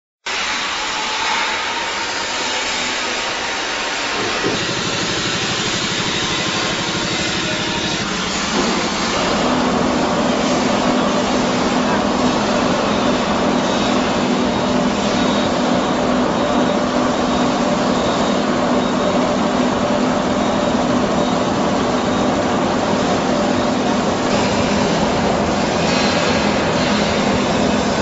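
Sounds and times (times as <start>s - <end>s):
washing machine running with potatoes: 4.2s - 28.0s.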